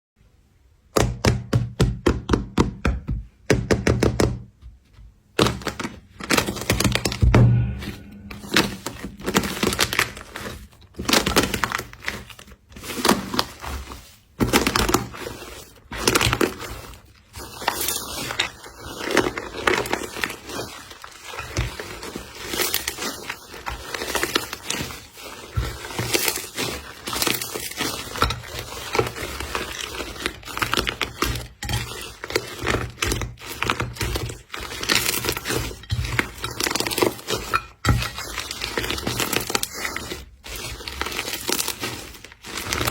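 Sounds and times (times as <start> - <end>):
slime squishing and crackling: 5.4 - 42.9.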